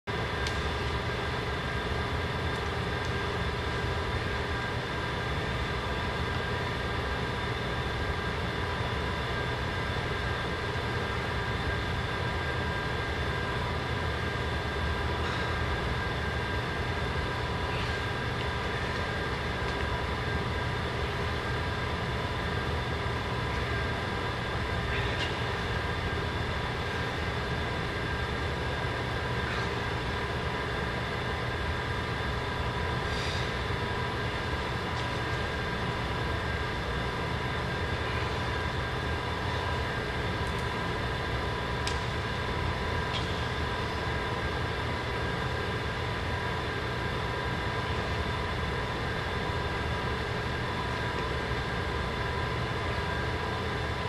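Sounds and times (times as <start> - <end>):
steady mechanical drone: 0.0 - 54.0.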